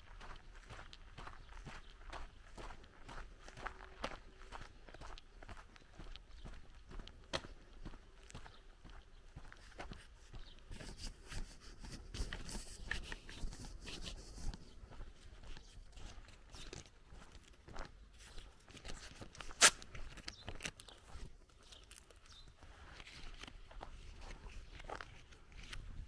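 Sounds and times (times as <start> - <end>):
footsteps on gravel: 0.0 - 26.0.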